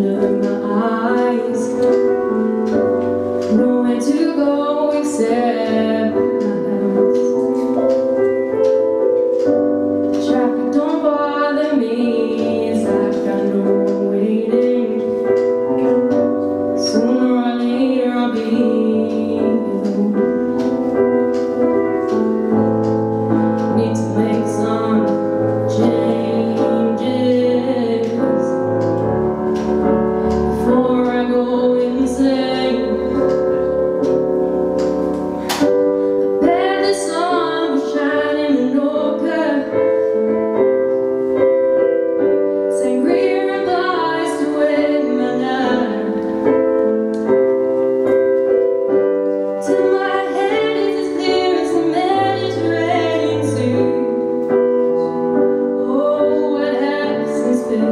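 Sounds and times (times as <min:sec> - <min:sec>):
woman singing into a microphone: 0:00.0 - 0:07.7, 0:10.1 - 0:15.6, 0:16.6 - 0:34.3, 0:35.2 - 0:40.9, 0:42.2 - 0:47.4, 0:49.4 - 0:57.9
piano chords: 0:00.0 - 0:57.9.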